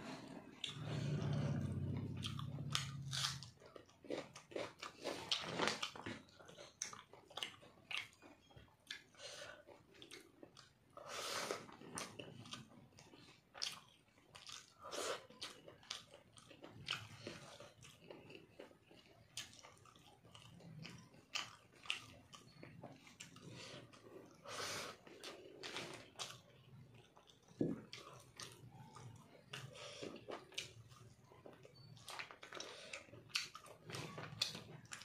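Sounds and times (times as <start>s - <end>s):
wet chewing and mouth clicks: 0.4s - 35.0s.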